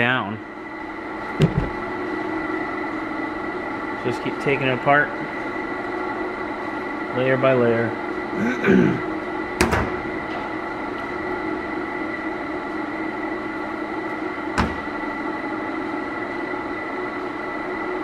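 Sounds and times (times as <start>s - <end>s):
workshop machinery humming: 0.0s - 18.0s.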